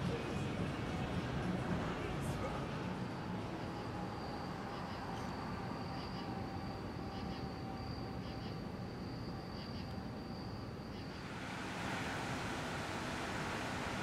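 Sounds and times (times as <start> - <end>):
crickets chirping: 0.0 - 14.0
low city rumble: 0.0 - 14.0.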